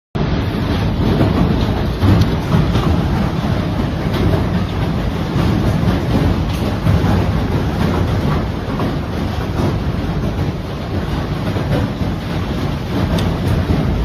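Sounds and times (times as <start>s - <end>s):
heavy hail clattering: 0.2s - 14.0s.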